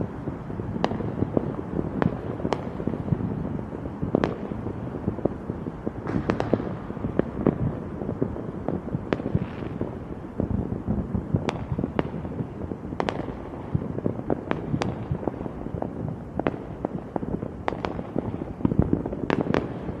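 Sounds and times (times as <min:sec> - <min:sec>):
fireworks cracks and bangs: 0:00.0 - 0:20.0.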